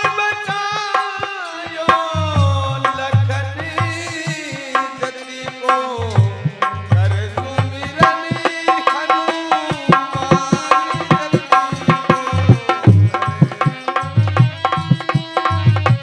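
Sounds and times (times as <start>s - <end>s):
dholak drumming: 0.0s - 16.0s
harmonium: 0.0s - 16.0s.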